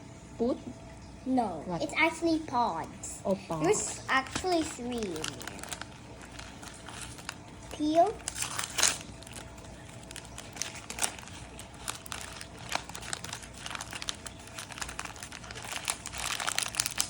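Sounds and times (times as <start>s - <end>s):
plastic packaging crinkling: 3.3s - 17.0s.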